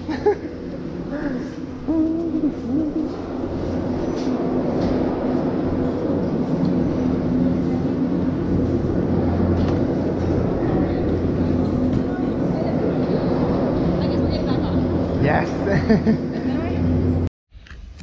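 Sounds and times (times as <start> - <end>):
machinery hum and rumble: 0.0 - 18.0.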